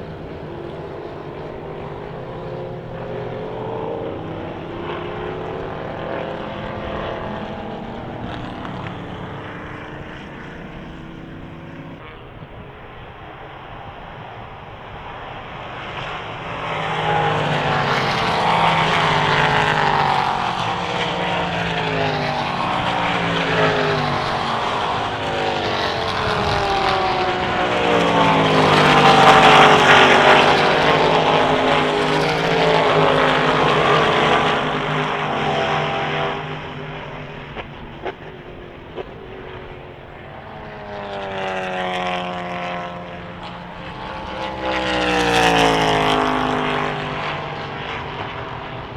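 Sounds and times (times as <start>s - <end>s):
race cars passing at speed: 0.0s - 48.9s.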